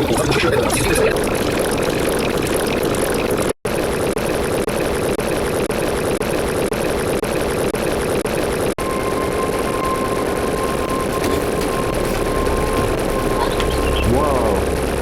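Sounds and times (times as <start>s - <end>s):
mechanical drone with flutter: 0.0s - 15.0s.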